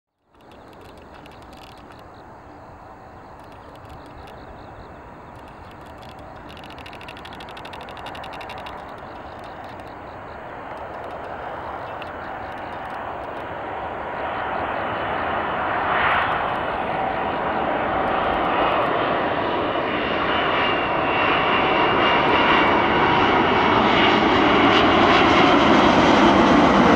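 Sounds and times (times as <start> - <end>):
jet airliner engines rushing: 0.3 - 26.9.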